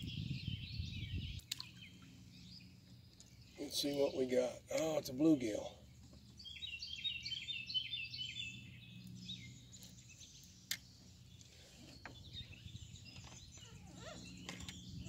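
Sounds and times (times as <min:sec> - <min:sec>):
outdoor background noise: 0:00.0 - 0:15.0
songbird chirping: 0:00.0 - 0:15.0.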